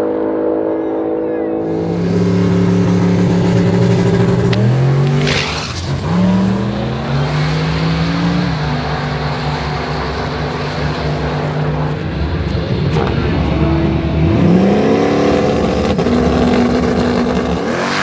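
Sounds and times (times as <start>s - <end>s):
drag car engine running: 1.6s - 18.0s.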